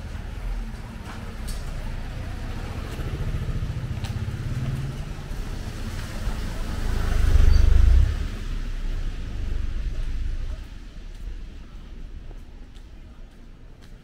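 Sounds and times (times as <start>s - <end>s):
vehicle engine running: 0.0s - 12.5s.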